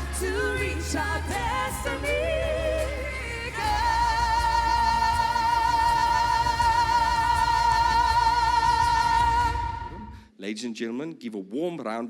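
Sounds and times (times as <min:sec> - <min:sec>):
backing track: 0:00.0 - 0:10.2.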